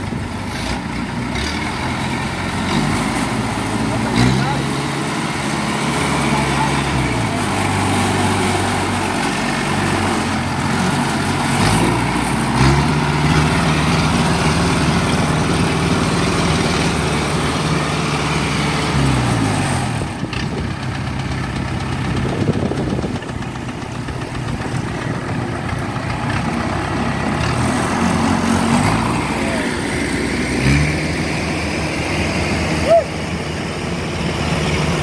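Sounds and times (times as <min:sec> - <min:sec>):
tracked vehicle engine under load: 0:00.0 - 0:35.0.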